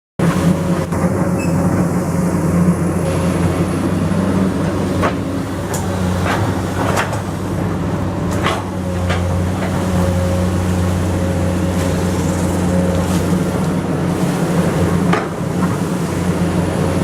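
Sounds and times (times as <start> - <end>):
excavator diesel engine running: 0.2 - 17.0.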